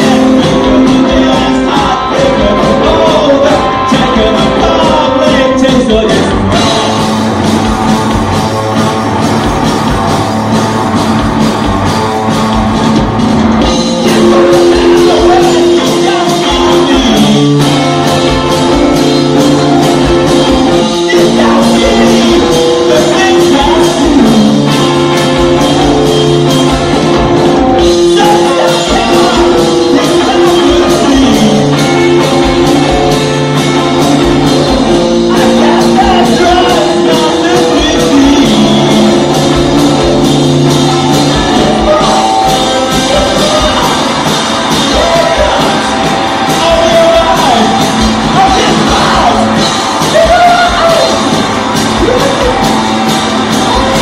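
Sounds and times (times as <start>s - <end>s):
person singing lead vocal: 0.0s - 7.3s, 13.6s - 26.8s, 27.6s - 54.0s
drum kit: 0.0s - 54.0s
electric guitar: 0.0s - 54.0s.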